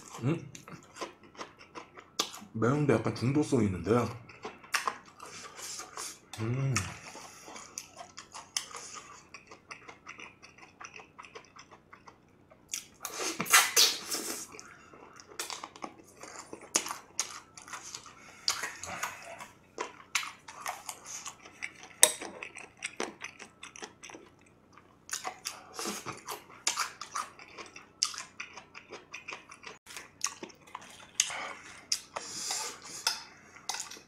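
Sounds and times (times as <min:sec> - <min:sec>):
person chewing: 0:00.0 - 0:02.5, 0:04.2 - 0:34.0.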